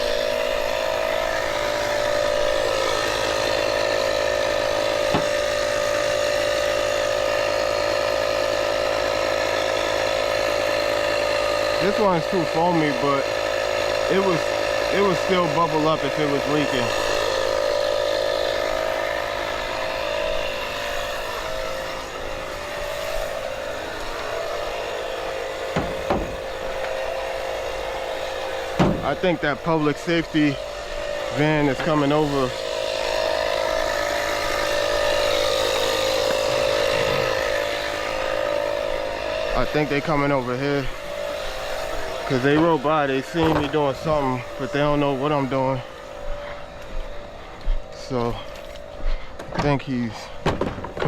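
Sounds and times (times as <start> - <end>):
small motor humming: 0.0 - 51.0
vehicle engine running: 0.0 - 51.0.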